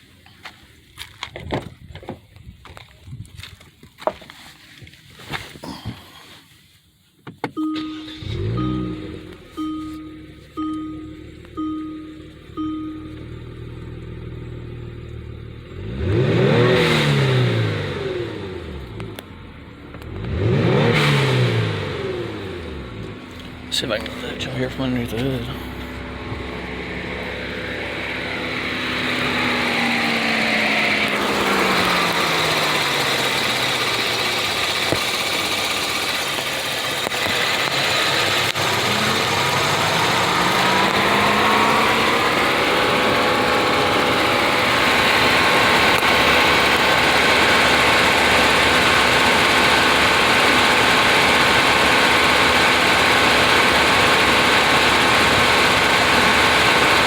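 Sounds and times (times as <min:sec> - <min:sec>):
car engine running: 0:07.4 - 0:57.0.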